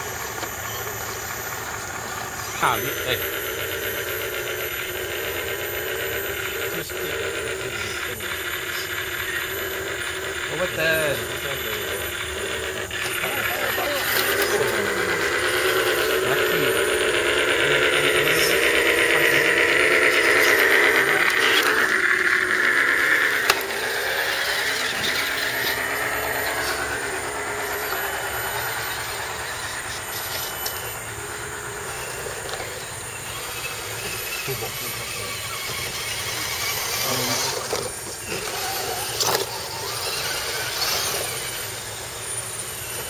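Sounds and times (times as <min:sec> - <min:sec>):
toy truck electric motors whining: 0:00.0 - 0:43.0.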